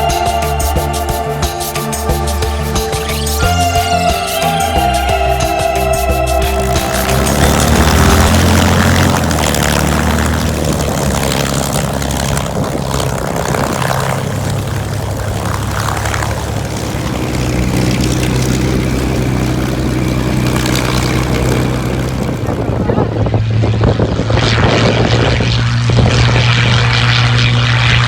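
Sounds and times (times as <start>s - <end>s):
rushing noise: 0.0s - 24.0s
propeller aircraft engine droning: 0.0s - 28.0s.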